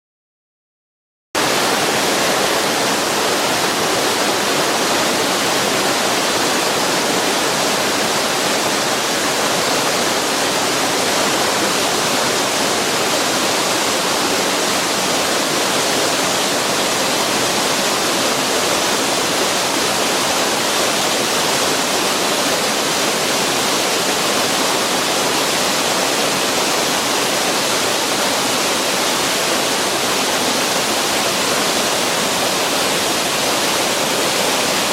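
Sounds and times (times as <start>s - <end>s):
waterfall rushing: 1.4s - 34.9s.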